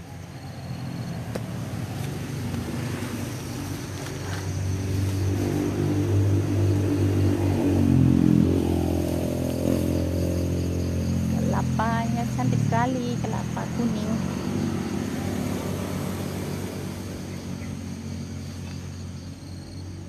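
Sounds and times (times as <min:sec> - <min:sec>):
vehicle engine passing: 0:00.0 - 0:20.0.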